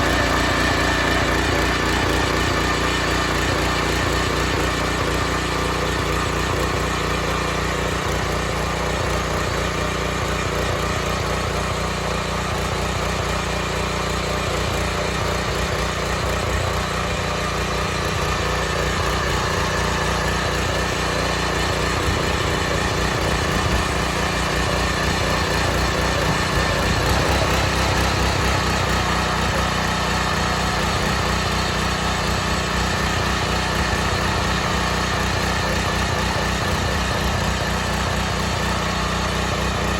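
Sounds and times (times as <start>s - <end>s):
petrol tiller running: 0.0s - 39.9s.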